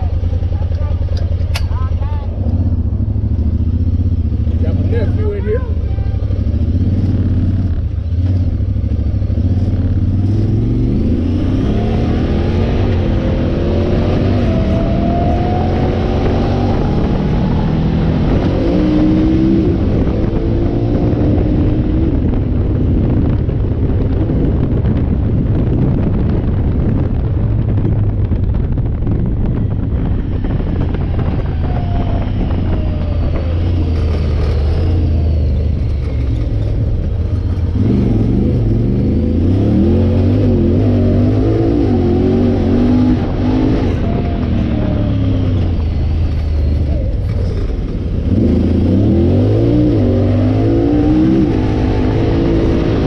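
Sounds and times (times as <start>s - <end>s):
vehicle engine revving: 0.0s - 53.0s.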